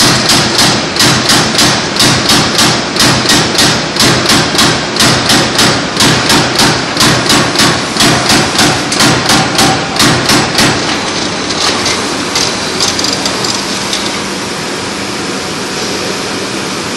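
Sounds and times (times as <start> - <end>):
punch press striking sheet metal: 0.0 - 14.4
machine running hum: 0.0 - 16.9.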